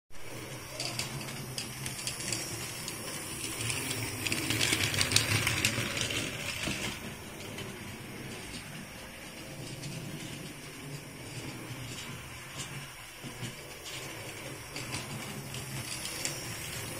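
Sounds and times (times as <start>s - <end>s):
wheels clicking over rail joints: 0.2s - 16.9s.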